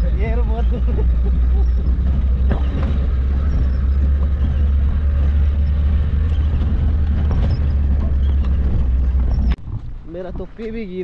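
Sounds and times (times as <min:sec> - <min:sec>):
low engine drone: 0:00.0 - 0:10.1
vehicle knocking over bumps: 0:00.0 - 0:11.0.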